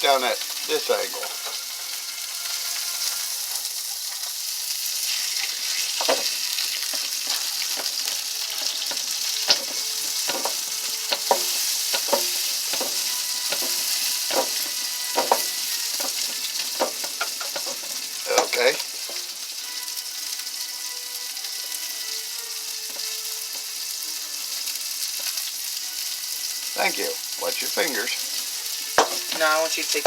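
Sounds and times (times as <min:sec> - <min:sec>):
meat sizzling in a pan: 0:00.0 - 0:30.0.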